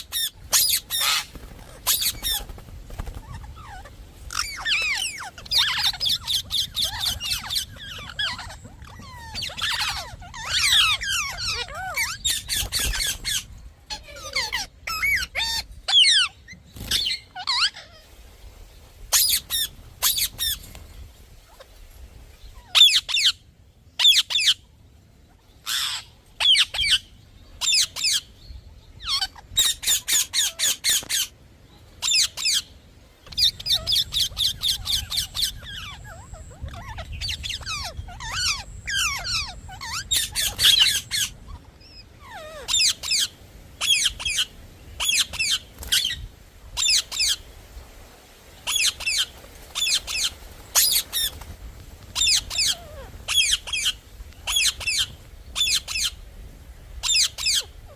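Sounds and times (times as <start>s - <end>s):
parrot chirping and squawking: 0.0s - 18.0s, 19.1s - 20.6s, 22.6s - 23.4s, 24.0s - 24.6s, 25.6s - 28.2s, 29.0s - 31.3s, 32.0s - 47.4s, 48.6s - 51.4s, 52.2s - 56.2s, 57.0s - 57.9s.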